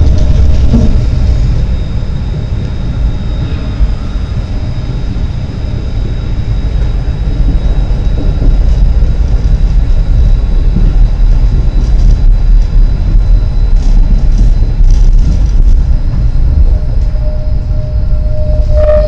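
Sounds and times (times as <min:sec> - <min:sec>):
faint high whine: 0:00.0 - 0:19.0
tram wheels rumbling: 0:00.0 - 0:19.0.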